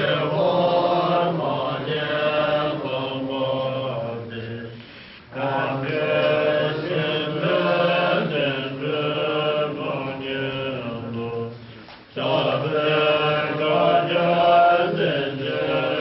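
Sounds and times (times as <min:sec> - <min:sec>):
voices chanting a prayer: 0:00.0 - 0:16.0.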